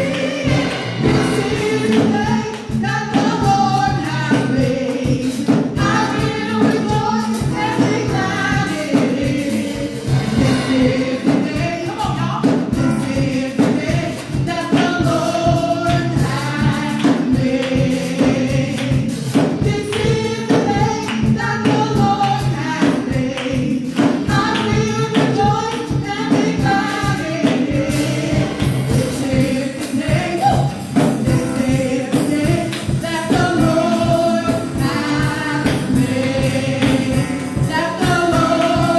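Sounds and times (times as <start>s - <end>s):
group singing gospel music: 0.0s - 38.9s
tambourine beat: 0.0s - 38.9s.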